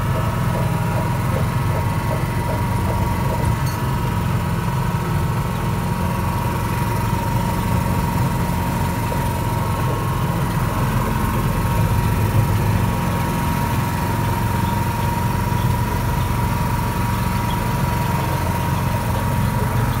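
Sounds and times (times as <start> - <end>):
locomotive engine running: 0.0 - 20.0.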